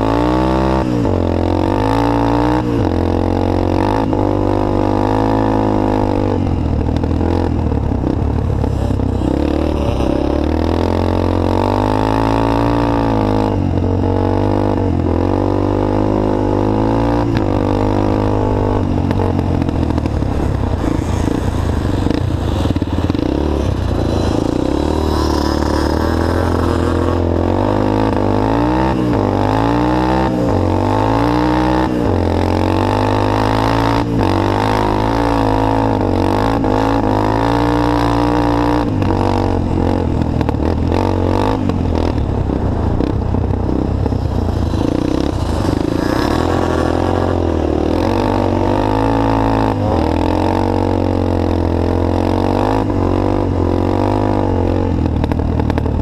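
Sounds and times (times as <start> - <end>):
three-wheeler engine running hard: 0.0 - 56.0.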